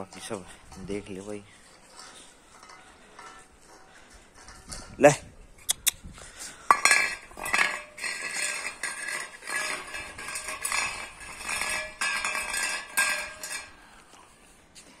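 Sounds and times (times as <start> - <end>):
metal bowl scraping on concrete: 0.0 - 5.2, 6.2 - 14.1.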